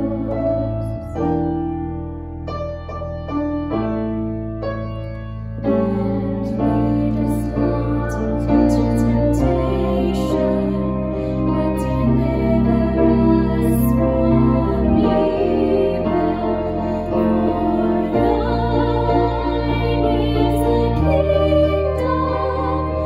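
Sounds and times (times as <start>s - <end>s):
slow piano chords: 0.0s - 23.0s
sustained bass: 0.0s - 23.0s.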